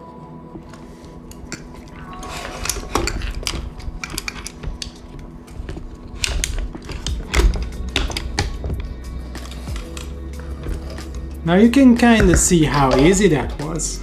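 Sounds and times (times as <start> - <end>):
camera rig hardware clicking: 0.6 - 14.0.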